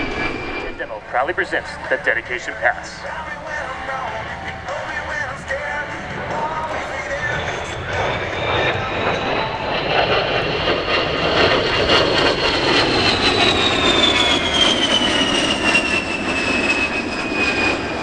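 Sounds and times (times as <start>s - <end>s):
jet engine whine and rush: 0.0s - 18.0s.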